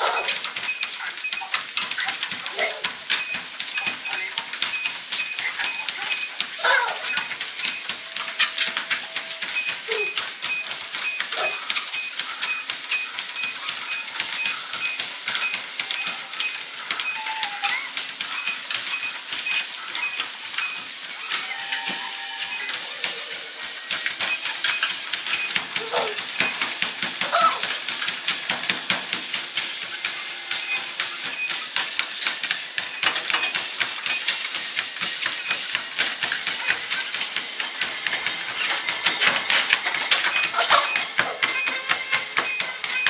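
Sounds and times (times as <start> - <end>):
feet and paws on treadmill belt: 0.0 - 43.0.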